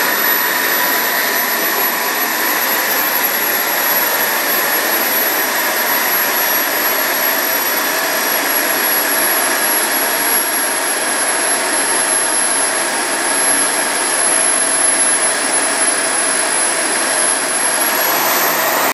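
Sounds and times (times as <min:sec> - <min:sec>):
turboprop engines whining: 0:00.0 - 0:18.9.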